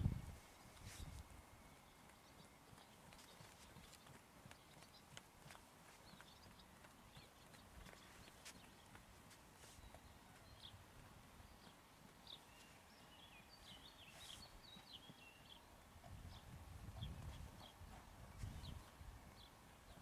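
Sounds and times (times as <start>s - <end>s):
small birds chirping: 0.6s - 20.0s
horse hoofbeats on sand: 1.9s - 13.0s, 13.7s - 20.0s.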